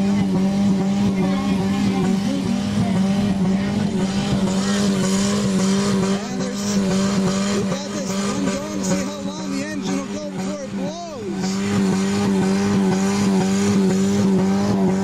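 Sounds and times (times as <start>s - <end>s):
car engine droning: 0.0s - 15.0s
faint voices: 0.0s - 15.0s.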